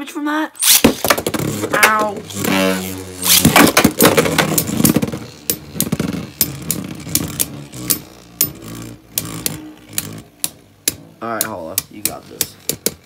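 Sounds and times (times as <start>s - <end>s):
spinning tops whirring: 0.6s - 13.0s.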